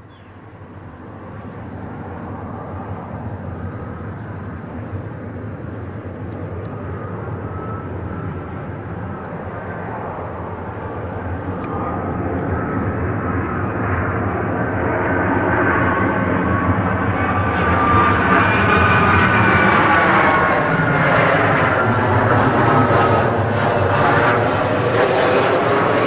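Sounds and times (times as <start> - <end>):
jet engines rumbling: 0.2 - 26.0.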